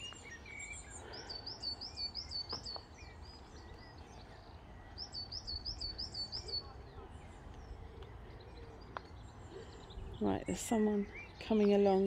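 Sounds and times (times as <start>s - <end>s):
small songbird singing: 0.0s - 12.0s.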